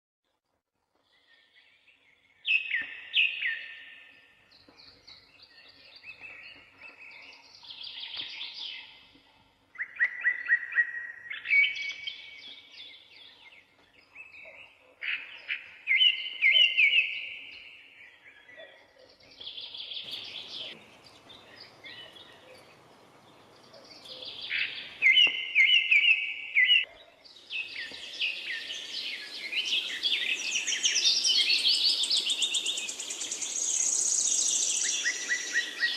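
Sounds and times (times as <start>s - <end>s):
songbirds chirping: 1.0s - 35.9s.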